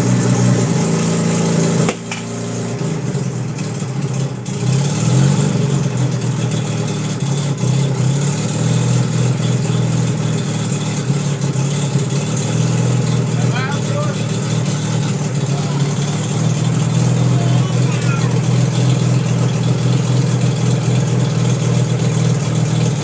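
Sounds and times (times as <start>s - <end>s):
rotary car engine starting up: 0.0s - 23.0s.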